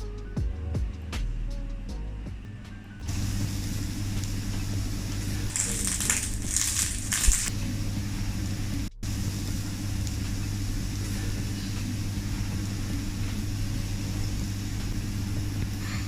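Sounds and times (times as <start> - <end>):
ventilation hum and hiss: 0.0 - 16.0.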